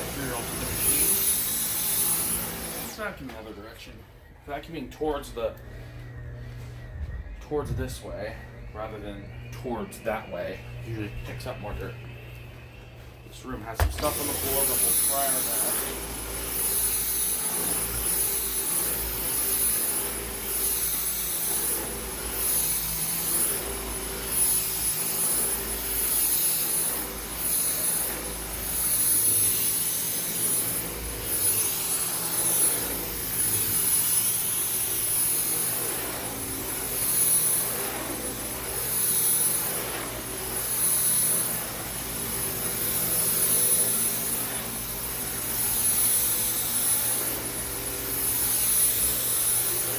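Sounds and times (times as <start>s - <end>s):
stick vacuum whining on carpet: 0.0s - 49.9s.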